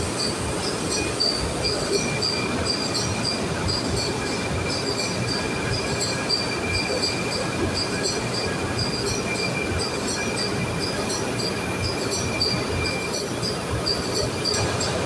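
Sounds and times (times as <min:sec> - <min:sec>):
engine room machinery running: 0:00.0 - 0:15.0.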